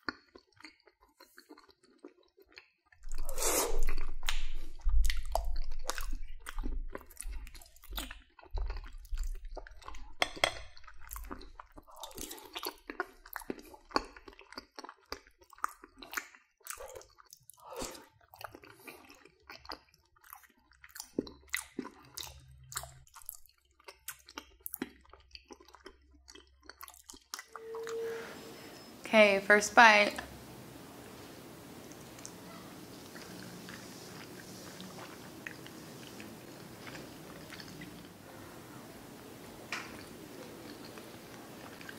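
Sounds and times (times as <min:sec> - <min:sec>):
chewing with wet smacks: 0:00.0 - 0:27.5, 0:31.8 - 0:38.2, 0:39.7 - 0:41.9.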